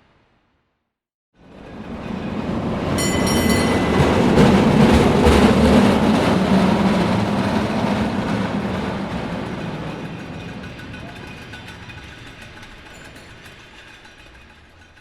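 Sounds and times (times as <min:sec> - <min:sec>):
cable car rumbling past: 0:01.4 - 0:15.0.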